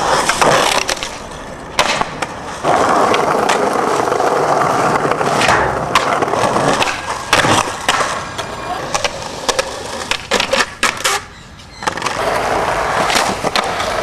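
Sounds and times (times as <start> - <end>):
skateboard clacks: 0.0 - 14.0
skateboard wheels rolling on concrete: 0.0 - 14.0.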